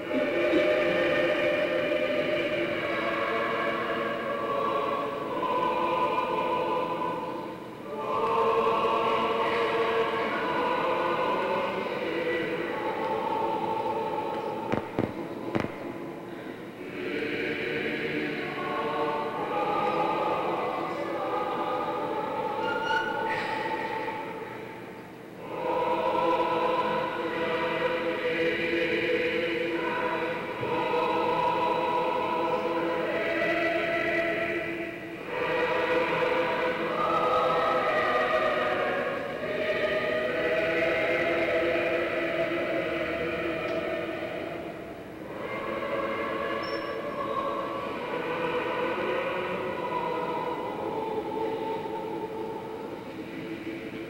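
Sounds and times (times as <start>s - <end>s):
choir singing chant: 0.0s - 54.0s.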